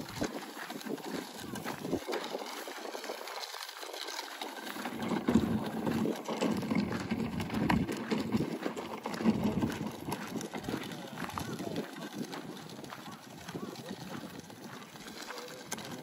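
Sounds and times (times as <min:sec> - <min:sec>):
footsteps on gravel: 0:00.0 - 0:16.0.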